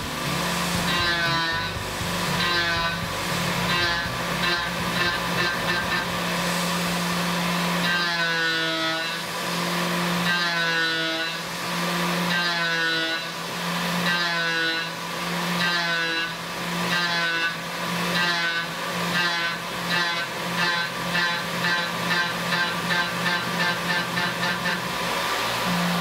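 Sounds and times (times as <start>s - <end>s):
mill spindle steady tone: 0.0s - 26.0s
milling tool cutting metal: 0.0s - 26.0s.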